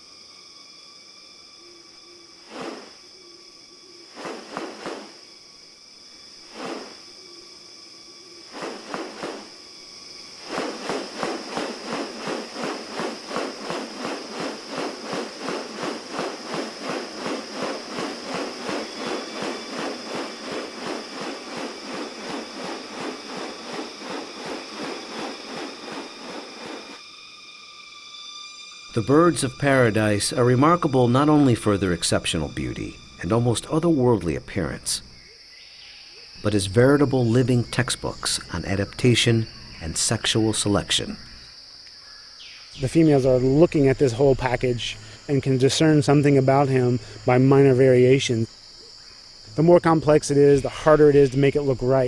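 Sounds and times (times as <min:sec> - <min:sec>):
high insect drone: 0:00.0 - 0:52.0.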